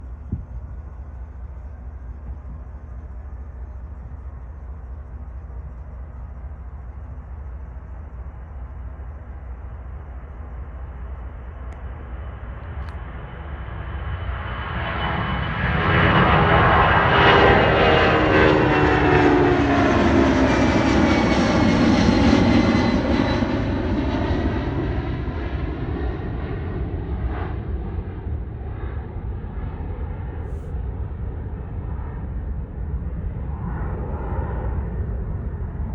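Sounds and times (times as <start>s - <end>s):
airplane taking off: 0.0s - 35.9s.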